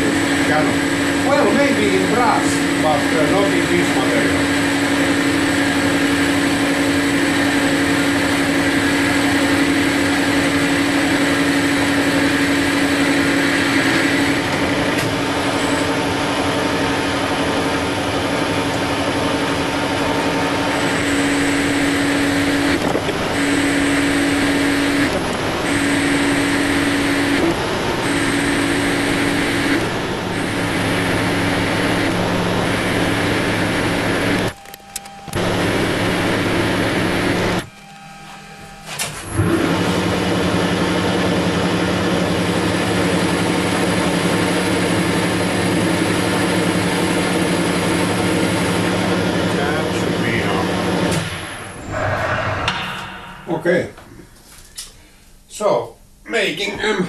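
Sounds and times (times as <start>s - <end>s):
lathe motor and gear hum: 0.0s - 53.5s.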